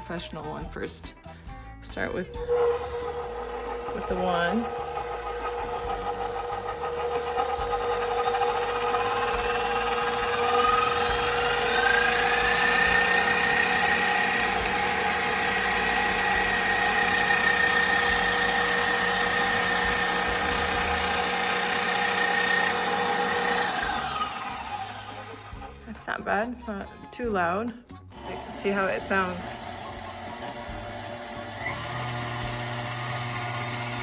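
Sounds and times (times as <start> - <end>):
stand mixer motor whining: 2.4 - 26.0, 28.1 - 34.0.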